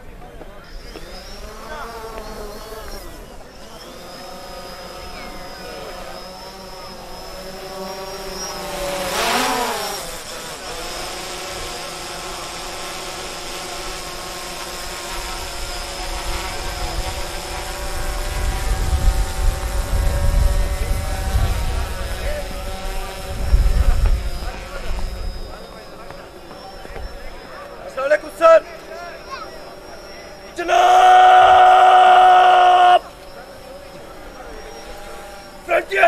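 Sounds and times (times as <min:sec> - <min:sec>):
small propeller aircraft flying overhead: 0:00.1 - 0:28.0, 0:32.4 - 0:36.0.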